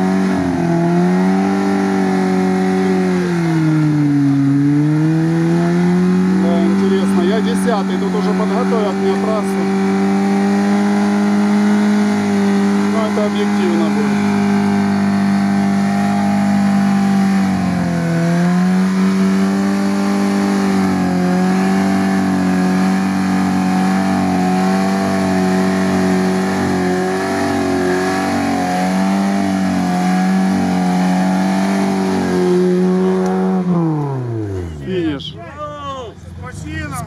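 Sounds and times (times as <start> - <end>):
car engine revving under load: 0.0 - 35.4.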